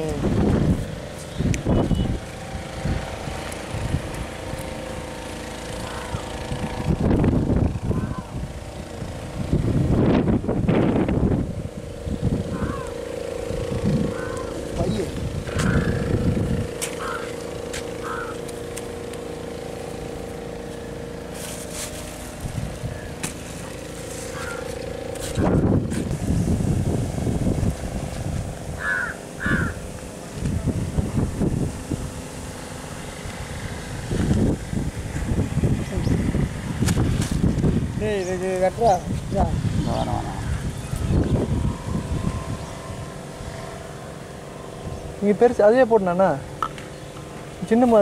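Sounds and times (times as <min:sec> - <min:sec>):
wind rumble on microphone: 0:00.0 - 0:05.0, 0:05.8 - 0:18.0, 0:21.5 - 0:45.4
steady motor hum: 0:00.0 - 0:48.0.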